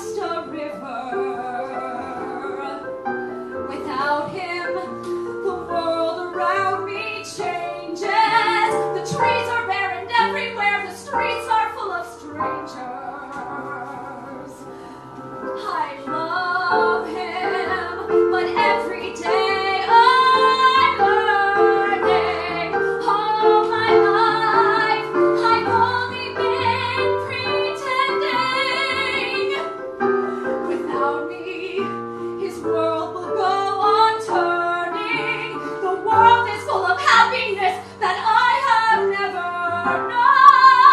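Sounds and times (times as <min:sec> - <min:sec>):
woman singing: 0:00.0 - 0:03.0, 0:03.7 - 0:14.8, 0:15.5 - 0:40.9
sustained keyboard accompaniment: 0:00.0 - 0:40.9.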